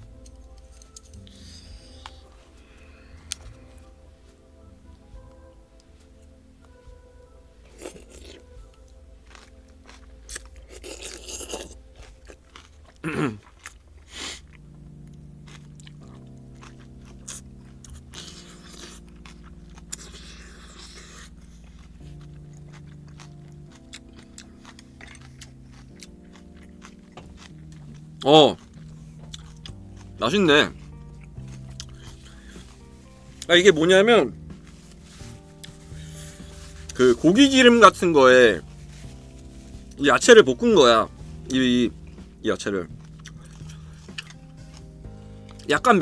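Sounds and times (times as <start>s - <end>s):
crunchy chewing: 0.0s - 4.4s, 7.6s - 45.9s
background music: 0.0s - 46.0s.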